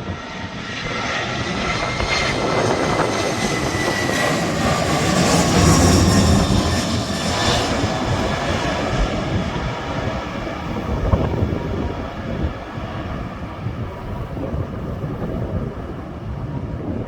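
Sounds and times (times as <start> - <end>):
plane passing: 0.0 - 17.0.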